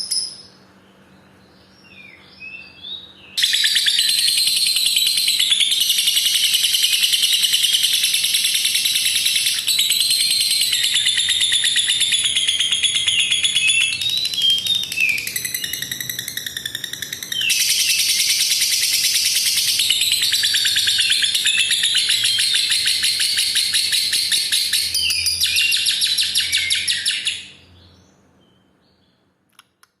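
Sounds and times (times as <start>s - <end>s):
lovebird chattering song: 3.4s - 27.6s.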